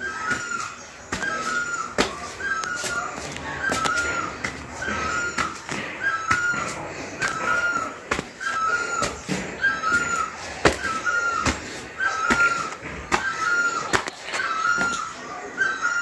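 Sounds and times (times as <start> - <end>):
footsteps on stone stairs: 0.0 - 15.2.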